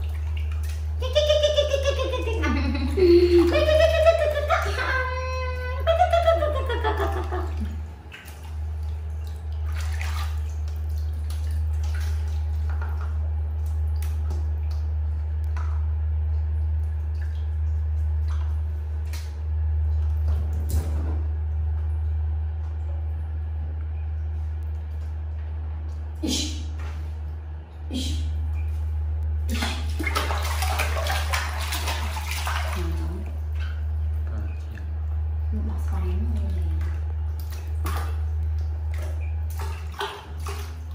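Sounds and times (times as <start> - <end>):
water splashing in plastic basin: 0.0 - 21.8, 29.4 - 40.9
steady low hum: 0.0 - 40.9.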